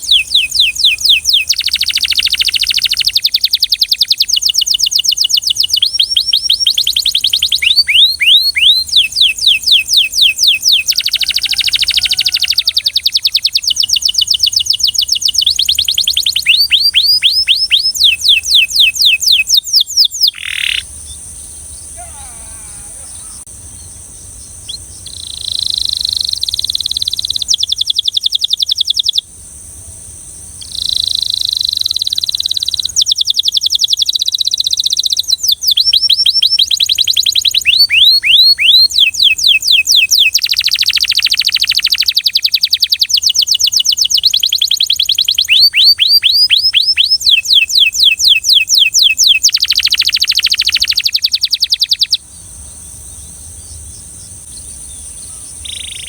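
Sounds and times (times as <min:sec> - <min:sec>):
canary singing trills: 0:00.0 - 0:29.3, 0:30.6 - 0:56.0.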